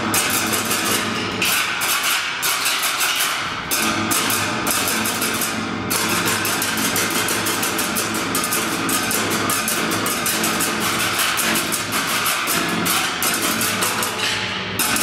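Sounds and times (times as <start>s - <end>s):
drummers striking steel barrels: 0.0s - 15.0s.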